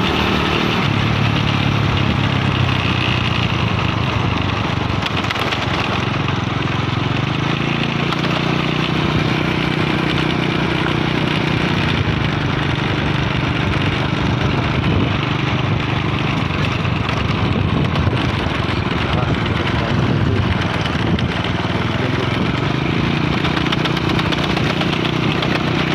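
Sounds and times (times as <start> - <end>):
constant rushing noise: 0.0 - 25.9
small motorcycle engine running: 0.0 - 25.9.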